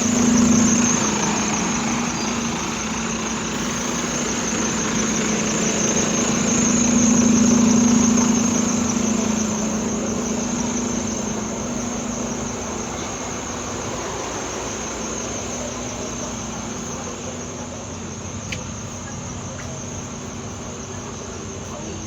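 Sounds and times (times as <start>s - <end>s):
bus engine whining: 0.0s - 22.0s.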